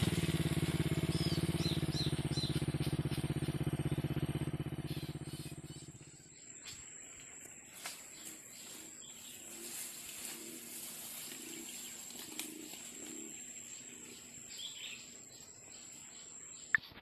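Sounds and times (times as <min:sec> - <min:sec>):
faint bird calls: 0:01.0 - 0:17.0.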